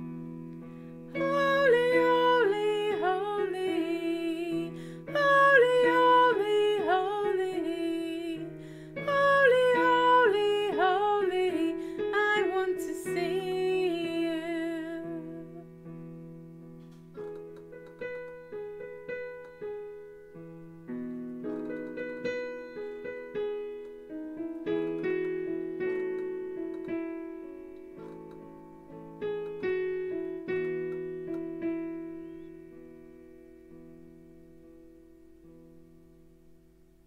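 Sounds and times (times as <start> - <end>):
piano playing slow chords: 0.0 - 37.0.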